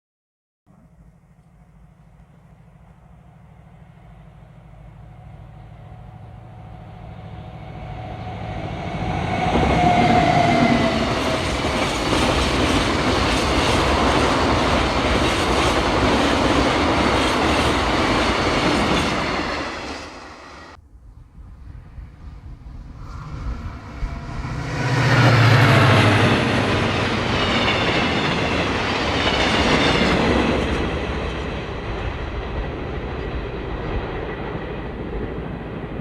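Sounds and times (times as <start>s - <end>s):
train rumble: 0.7s - 36.0s
train whine: 0.7s - 36.0s.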